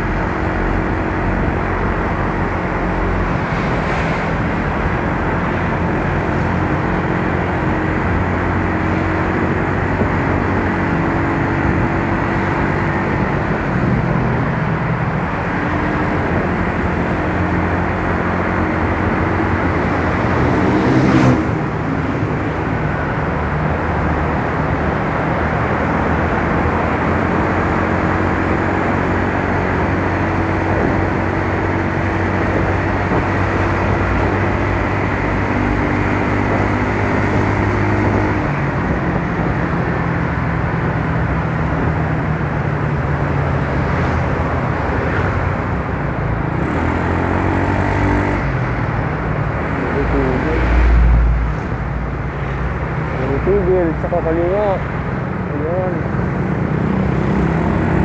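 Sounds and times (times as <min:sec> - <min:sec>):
wind and road rush: 0:00.0 - 0:58.0.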